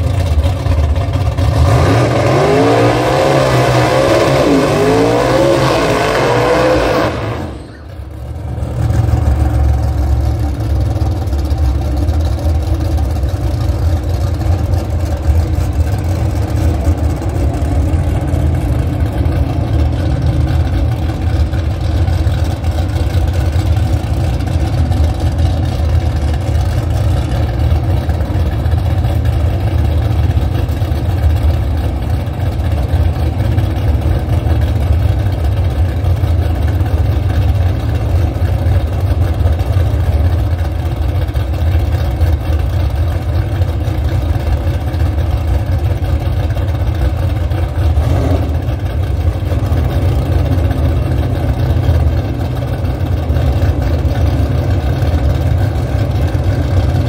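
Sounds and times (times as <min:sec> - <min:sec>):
loud car engine idling: 0:00.0 - 0:57.0.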